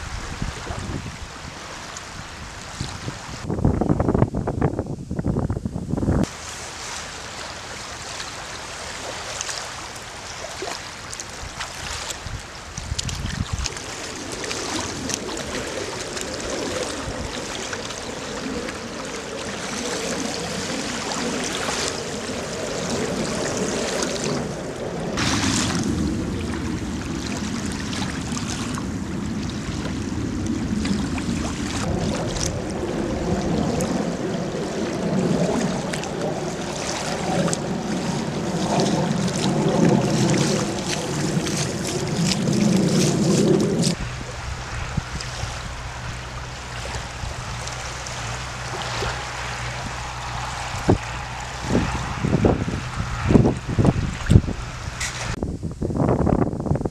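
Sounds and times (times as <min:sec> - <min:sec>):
lake water lapping: 0:00.0 - 0:03.5, 0:06.2 - 0:55.4
wind on microphone: 0:00.0 - 0:56.9.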